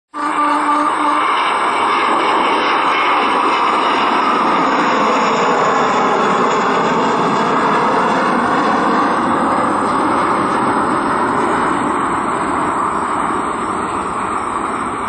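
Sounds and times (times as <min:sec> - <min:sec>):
jet airliner climbing overhead: 0:00.1 - 0:15.0.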